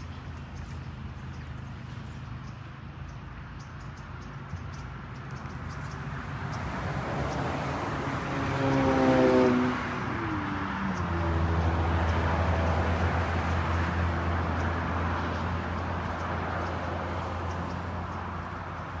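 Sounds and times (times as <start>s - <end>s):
constant rushing noise: 0.0s - 19.0s
engine humming: 0.0s - 19.0s.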